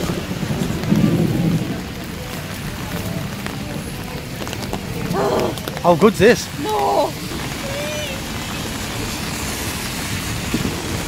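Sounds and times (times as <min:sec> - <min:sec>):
thunder rumble: 0:00.0 - 0:05.8, 0:06.7 - 0:11.0
heavy rain pouring: 0:00.0 - 0:11.0.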